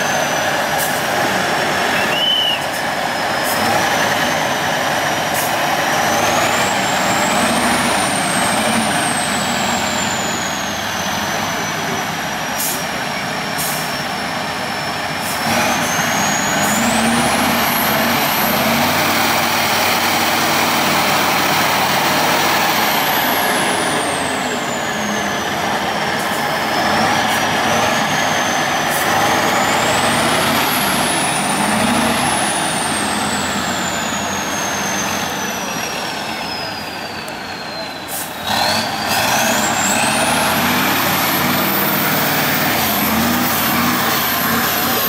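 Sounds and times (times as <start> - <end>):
truck diesel engine under load: 0.0 - 45.0.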